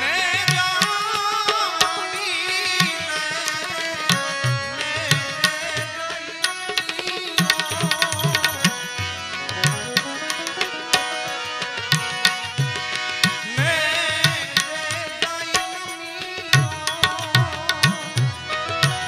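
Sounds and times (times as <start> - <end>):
man singing: 0.0 - 10.0, 13.2 - 19.0
harmonium chords: 0.0 - 19.0
tabla playing: 0.0 - 19.0.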